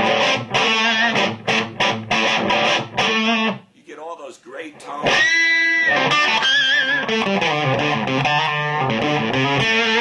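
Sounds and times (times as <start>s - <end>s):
electric guitar blues-rock lead: 0.0s - 3.6s, 5.0s - 10.0s.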